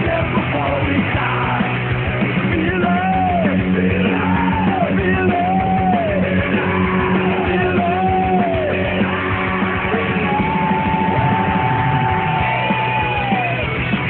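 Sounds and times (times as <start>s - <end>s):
punk rock band playing: 0.0s - 14.0s.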